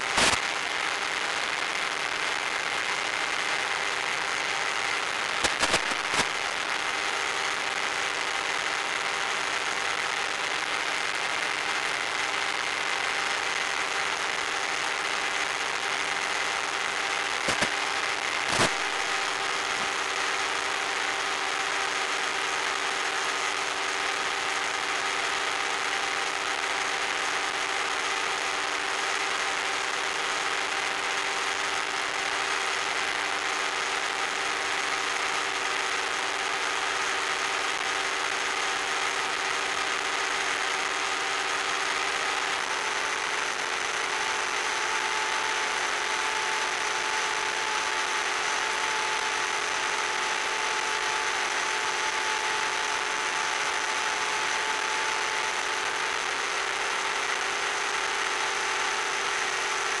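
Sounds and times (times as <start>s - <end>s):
constant hiss: 0.0s - 60.0s.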